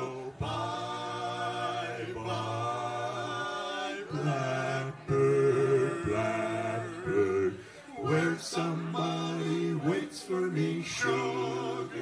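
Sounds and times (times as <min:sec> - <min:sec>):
male vocal quartet singing: 0:00.0 - 0:12.0.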